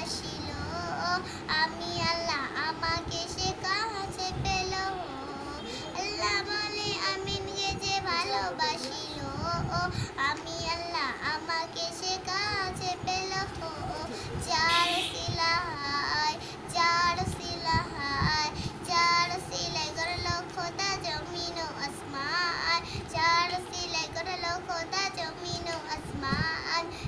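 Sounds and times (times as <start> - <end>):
girl singing: 0.0 - 27.0.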